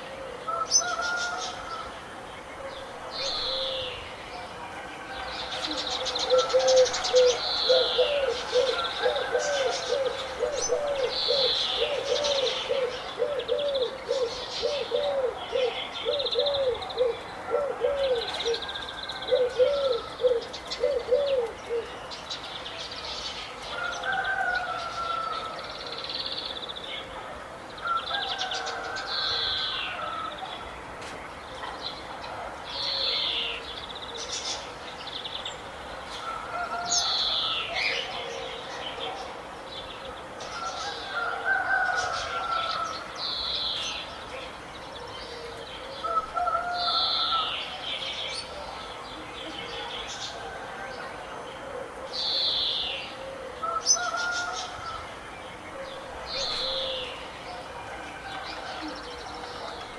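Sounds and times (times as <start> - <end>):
birds singing and chirping: 0.0 - 59.9.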